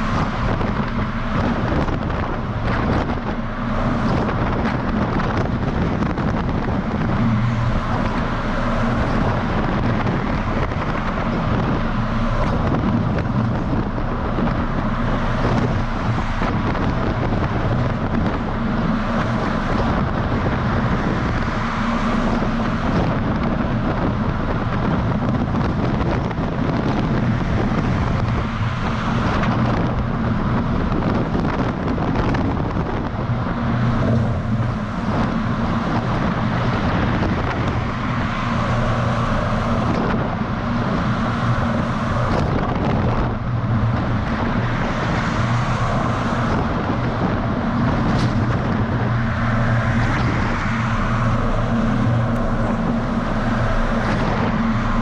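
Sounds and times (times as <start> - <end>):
truck engine drone: 0.0 - 55.0
tyre and road noise: 0.0 - 55.0
wind buffeting microphone: 0.0 - 55.0.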